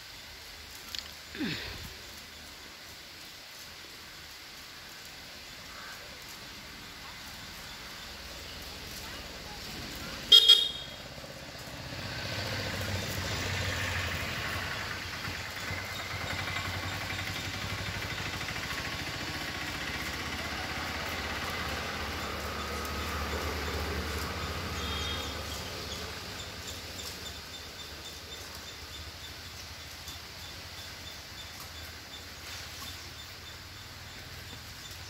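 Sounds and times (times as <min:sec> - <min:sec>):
vehicle engine humming: 0:00.1 - 0:35.0.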